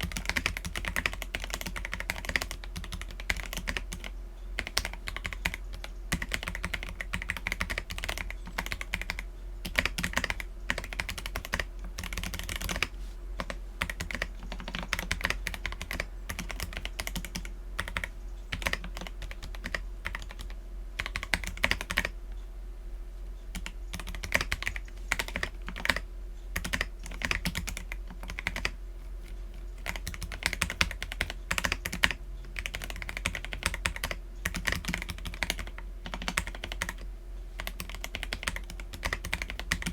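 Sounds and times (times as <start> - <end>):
mechanical keyboard typing: 0.0 - 22.1, 23.5 - 26.0, 26.6 - 39.9
steady low hum: 0.0 - 39.9.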